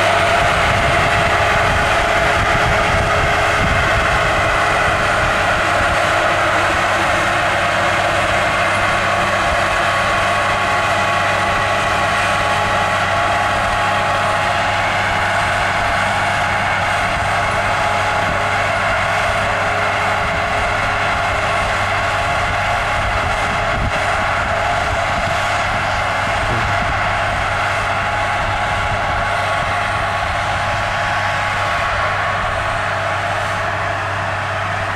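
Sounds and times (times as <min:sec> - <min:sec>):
tractor engine hum: 0:00.0 - 0:34.9.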